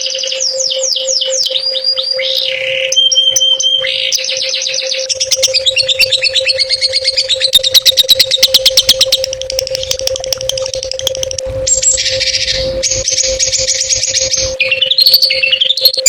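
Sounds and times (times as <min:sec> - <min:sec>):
songbird singing: 0:00.0 - 0:16.0
steady low hum: 0:00.0 - 0:16.0.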